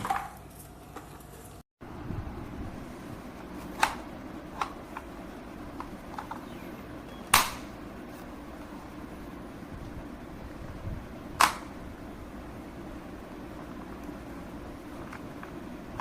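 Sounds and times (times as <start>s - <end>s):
steady low hum: 0.5s - 16.0s.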